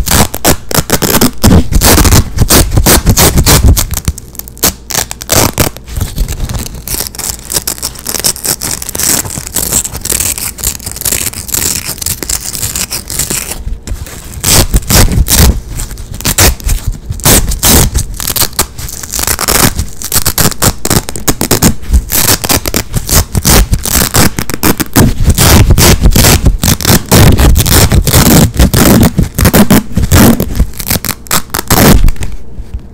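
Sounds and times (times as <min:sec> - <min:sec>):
velcro straps ripping: 0:00.0 - 0:32.4.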